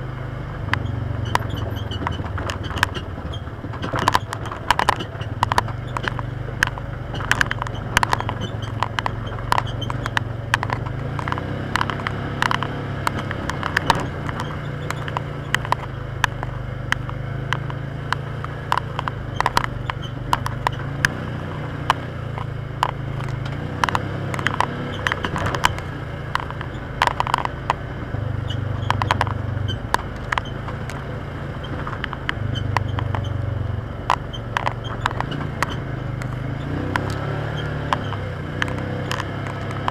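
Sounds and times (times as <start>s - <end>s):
utility vehicle engine droning: 0.0s - 39.9s
clicks rattles and knocks: 0.6s - 39.9s.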